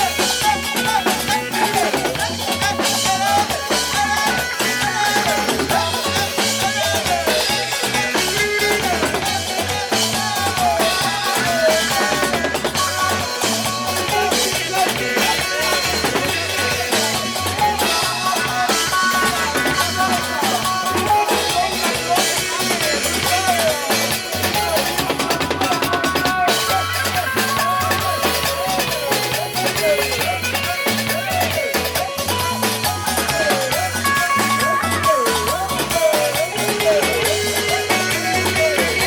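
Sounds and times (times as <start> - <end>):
band playing: 0.0 - 39.0
drum kit beat: 0.0 - 39.0.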